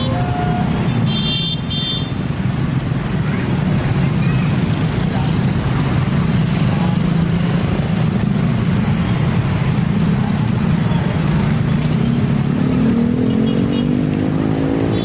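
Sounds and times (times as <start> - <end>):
traffic noise: 0.0 - 15.0
vehicle engines humming: 0.0 - 15.0.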